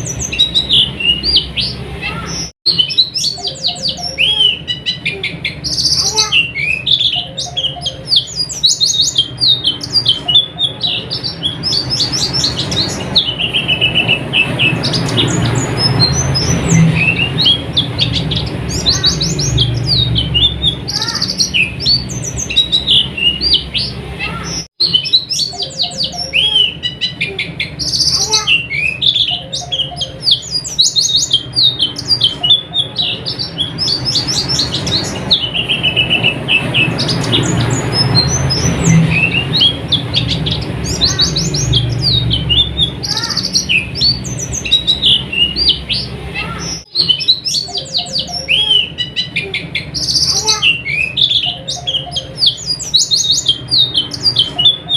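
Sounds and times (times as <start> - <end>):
birds twittering: 0.0 - 54.9.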